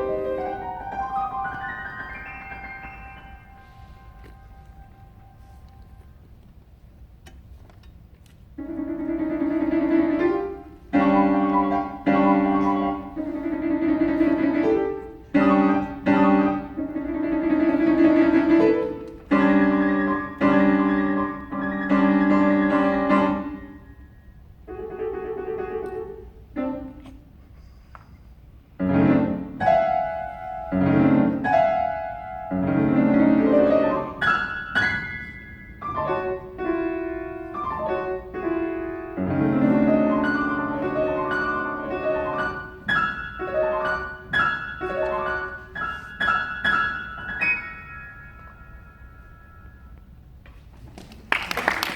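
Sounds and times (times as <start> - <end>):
solo piano playing slow piece: 0.0 - 6.3, 8.6 - 27.9, 28.5 - 50.4.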